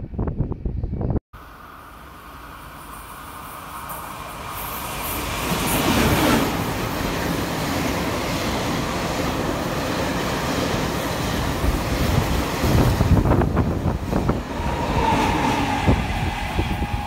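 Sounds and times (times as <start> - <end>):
train rumbling past: 1.4 - 17.0.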